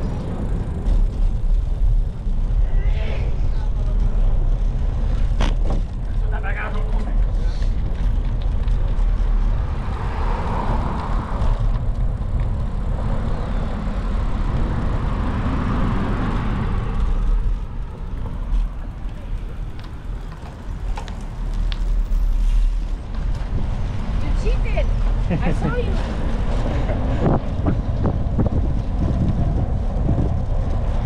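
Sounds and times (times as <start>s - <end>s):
road traffic: 0.0s - 31.0s
wind rumbling on microphone: 0.0s - 31.0s.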